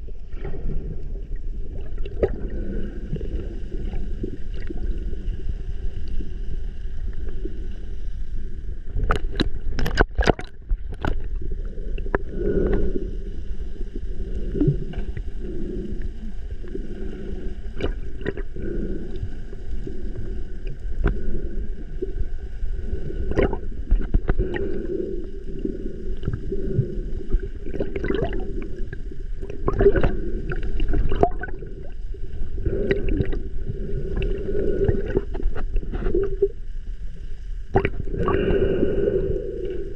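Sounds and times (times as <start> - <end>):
gurgling water and bubbles: 0.0 - 39.9.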